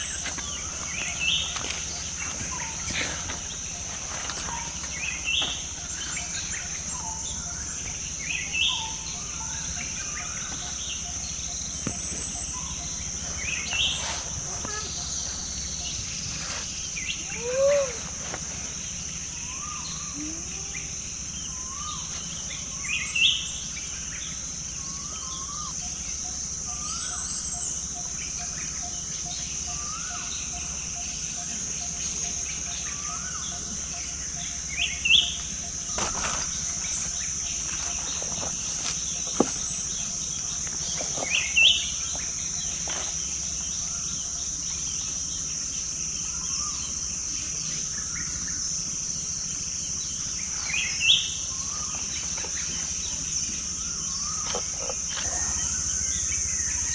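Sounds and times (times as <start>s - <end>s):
birds calling: 0.0s - 56.9s
insect drone: 0.0s - 56.9s.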